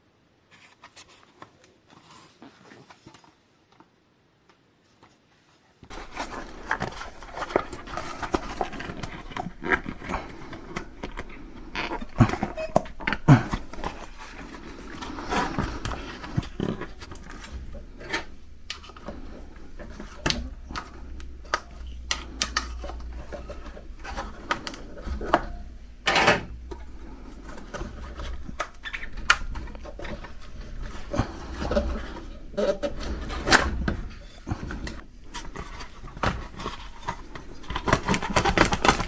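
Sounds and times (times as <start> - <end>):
rubber tyre rubbing and dragging: 5.9 - 39.0.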